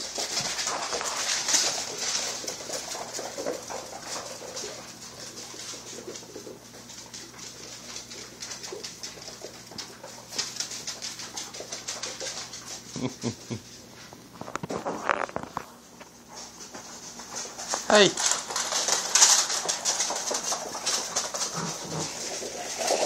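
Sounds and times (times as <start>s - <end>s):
puppy claws skittering on tiles: 0.0s - 23.0s.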